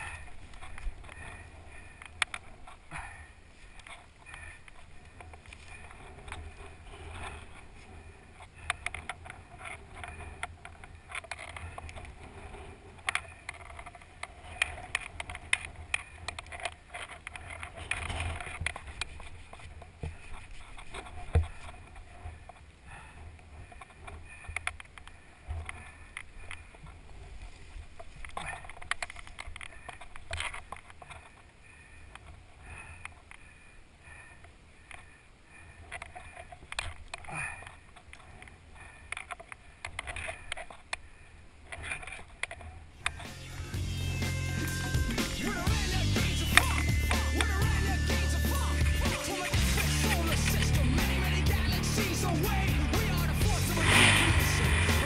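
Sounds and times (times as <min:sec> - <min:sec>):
grass rustling: 0:00.0 - 0:55.0.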